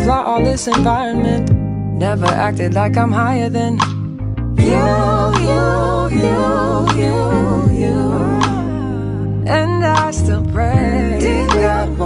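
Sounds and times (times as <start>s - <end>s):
gospel-soul song: 0.0s - 12.0s.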